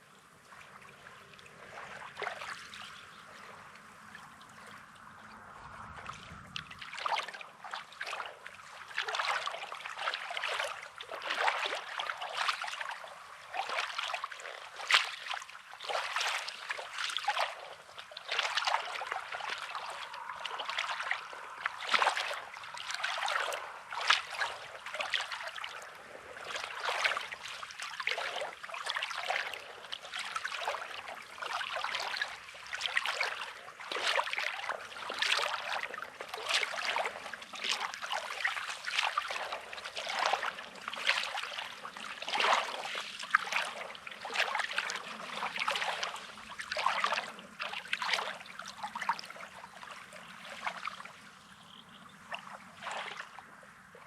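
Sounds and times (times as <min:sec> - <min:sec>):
small waves washing over pebbles: 0:00.0 - 0:53.6.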